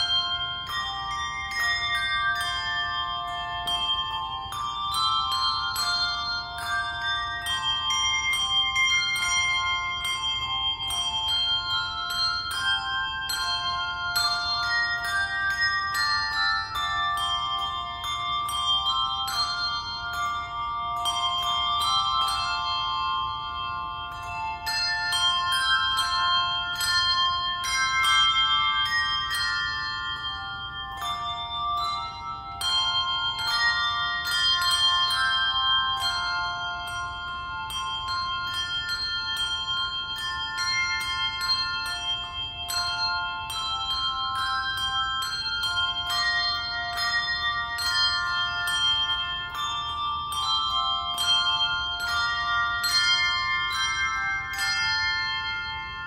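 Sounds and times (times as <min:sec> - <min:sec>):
handbell choir ringing: 0:00.0 - 0:56.0.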